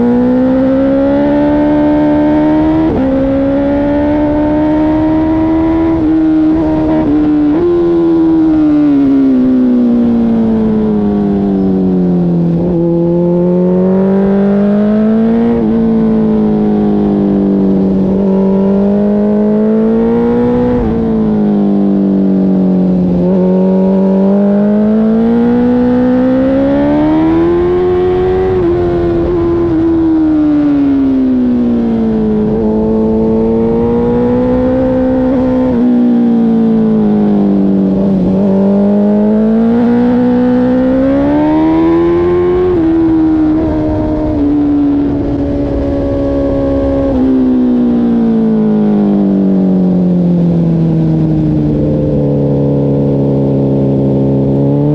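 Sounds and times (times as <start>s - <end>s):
low wind rush: 0.0s - 54.9s
motorcycle engine at speed: 0.0s - 54.9s.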